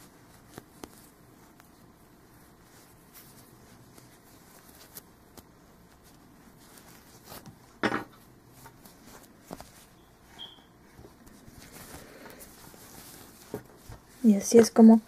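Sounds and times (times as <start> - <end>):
hands rustling crocheted hat: 0.0 - 15.0.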